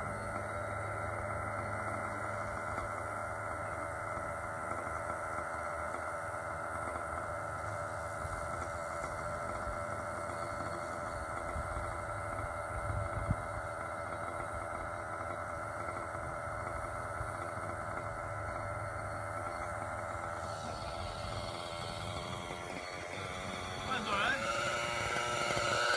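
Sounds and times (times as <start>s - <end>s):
model helicopter engine idling: 0.0s - 25.9s.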